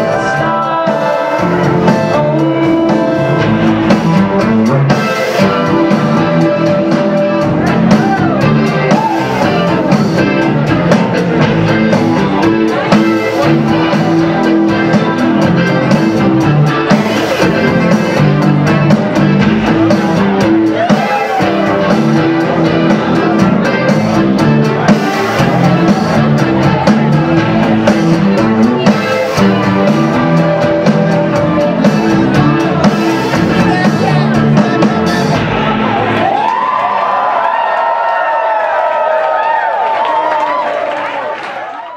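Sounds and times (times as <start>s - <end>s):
rock band playing live: 0.0s - 37.1s
guitar: 0.0s - 37.2s
drum kit: 0.0s - 40.7s.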